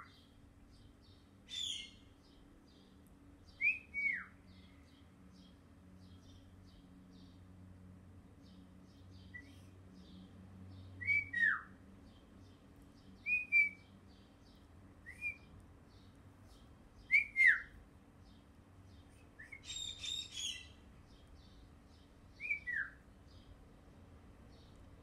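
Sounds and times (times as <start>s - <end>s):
faint high bird chirps: 0.0s - 7.4s, 8.4s - 23.6s
bird chirping: 0.0s - 7.6s, 8.4s - 25.0s.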